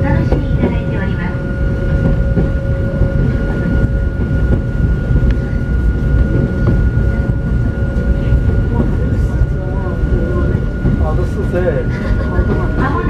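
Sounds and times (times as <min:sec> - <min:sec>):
electric railcar rumbling: 0:00.0 - 0:13.0.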